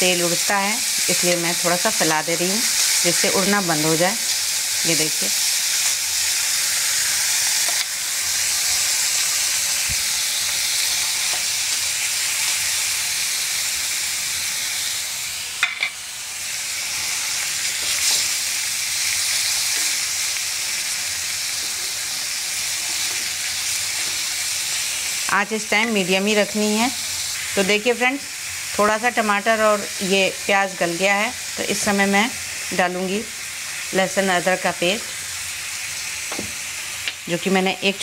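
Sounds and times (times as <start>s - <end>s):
onion and tomato sizzling in oil: 0.0s - 38.0s.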